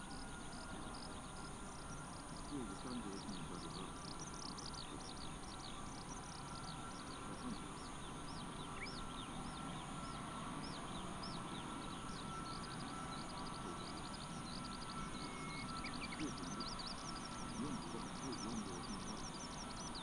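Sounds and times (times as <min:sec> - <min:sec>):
bird chirping: 0:00.0 - 0:20.0
steady high hiss: 0:00.0 - 0:20.0.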